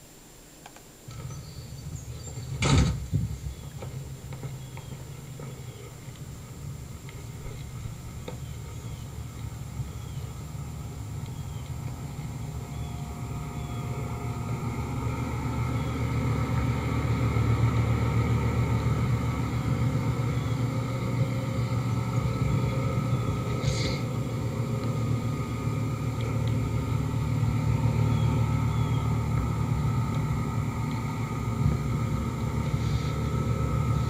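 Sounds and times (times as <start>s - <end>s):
air conditioner compressor hum: 0.0s - 34.0s.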